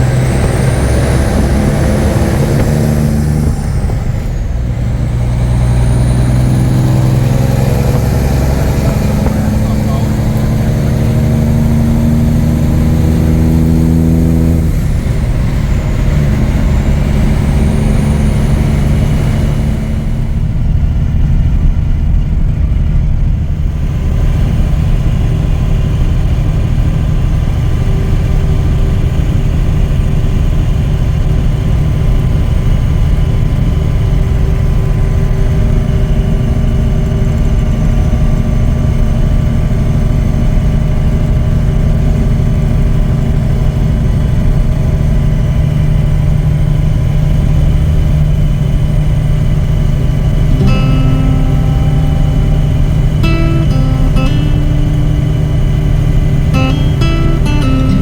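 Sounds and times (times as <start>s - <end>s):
truck diesel engine pulling: 0.0s - 58.0s.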